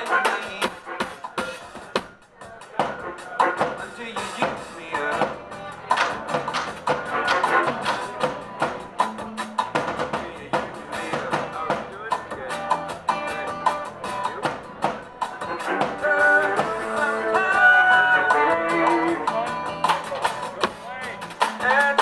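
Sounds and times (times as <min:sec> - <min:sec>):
drums keeping a steady beat: 0:00.0 - 0:22.0
electric guitar: 0:04.2 - 0:22.0.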